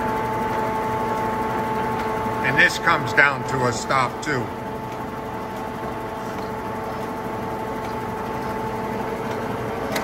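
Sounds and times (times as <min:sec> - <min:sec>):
grinder machine hum: 0:00.0 - 0:10.0
grinding wheel whine: 0:00.0 - 0:10.0.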